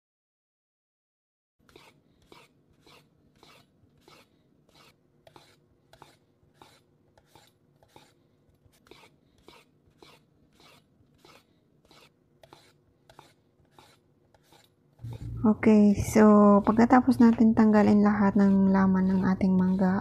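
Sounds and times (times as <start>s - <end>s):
knife slicing mango: 1.6s - 15.4s, 16.0s - 20.0s.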